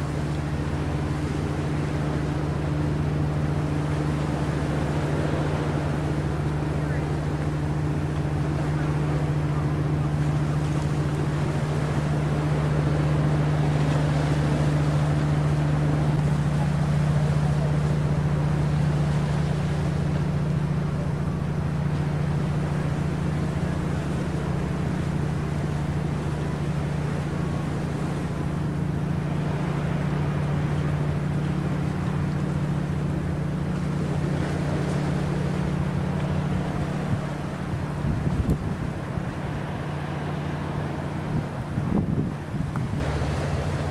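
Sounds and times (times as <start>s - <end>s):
boat engine droning: 0.0s - 43.9s
water noise: 0.0s - 43.9s
wind: 0.0s - 43.9s.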